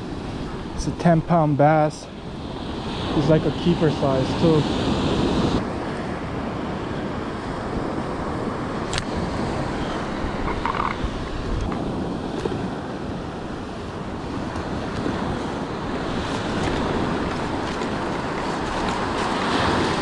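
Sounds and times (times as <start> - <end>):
surf washing up sandy beach: 0.0 - 20.0
wind buffeting microphone: 2.3 - 20.0.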